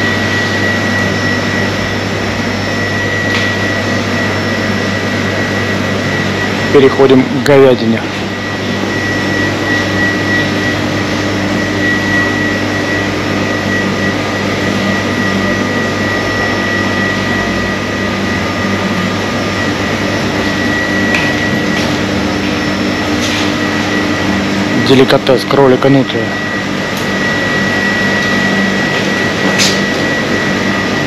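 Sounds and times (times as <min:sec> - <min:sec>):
refrigeration machinery hum: 0:00.0 - 0:31.0
thin high whine: 0:00.0 - 0:31.0.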